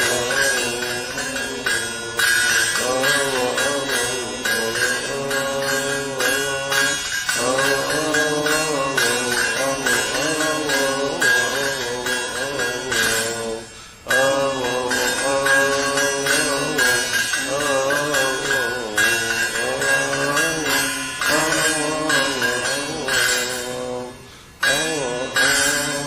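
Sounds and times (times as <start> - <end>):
man chanting a hymn: 0.0 - 26.0
metal percussion strikes: 0.0 - 26.0.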